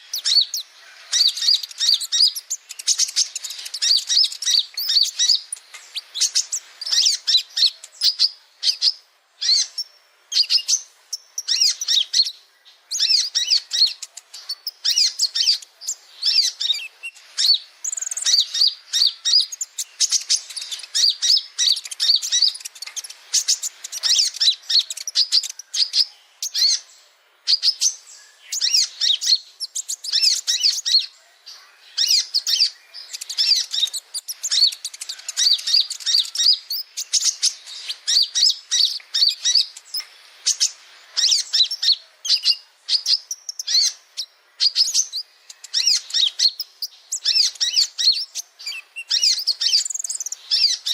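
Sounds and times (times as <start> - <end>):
sunbird singing high chirps: 0.0 - 50.9.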